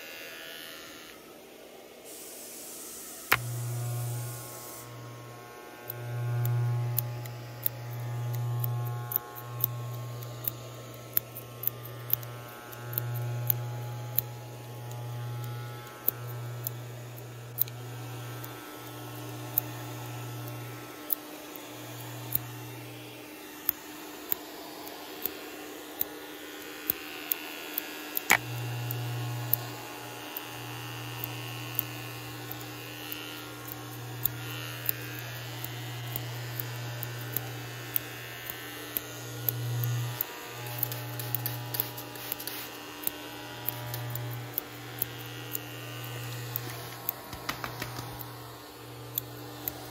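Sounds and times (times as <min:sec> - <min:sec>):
electric hair clipper buzzing: 0:00.0 - 0:49.9.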